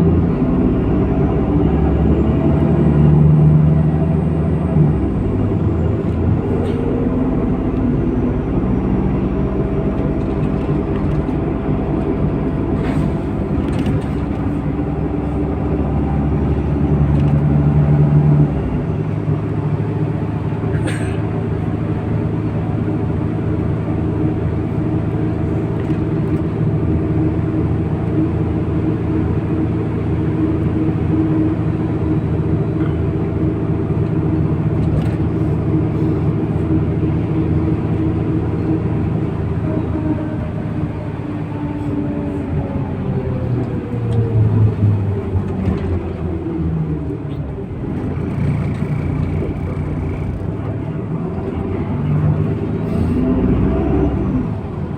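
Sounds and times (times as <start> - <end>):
bus engine running: 0.0 - 54.9.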